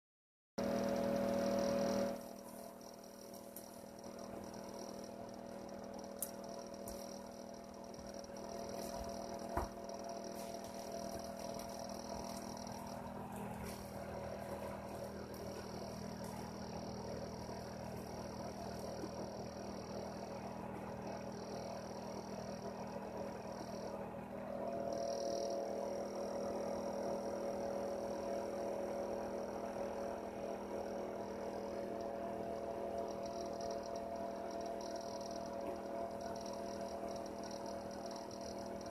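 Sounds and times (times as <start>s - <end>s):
heater humming: 0.6s - 38.9s.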